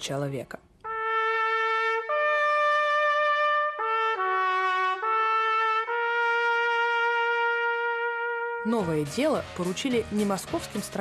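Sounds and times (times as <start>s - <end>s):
trumpet-led brass fanfare: 0.8s - 10.8s.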